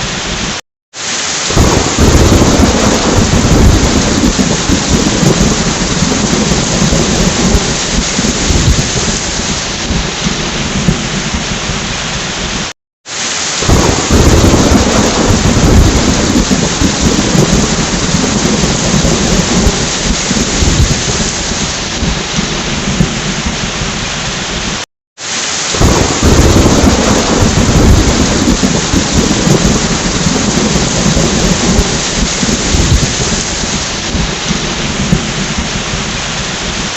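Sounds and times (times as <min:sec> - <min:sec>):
steady rain: 0:00.0 - 0:36.9
thunder rumbling: 0:01.4 - 0:12.7, 0:13.6 - 0:24.8, 0:25.6 - 0:36.9.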